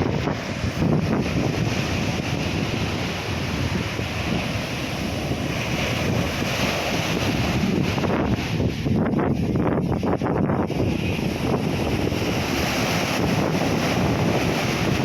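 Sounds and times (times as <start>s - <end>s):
sea waves breaking: 0.0s - 15.0s
wind buffeting microphone: 0.0s - 15.0s.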